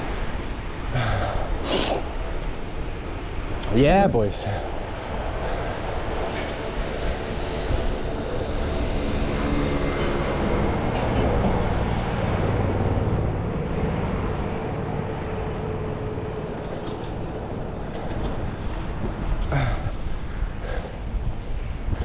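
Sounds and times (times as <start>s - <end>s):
wind rushing over microphone: 0.0s - 16.6s, 17.2s - 22.0s
city traffic noise: 0.0s - 22.0s
vehicle engine hum: 0.0s - 22.0s.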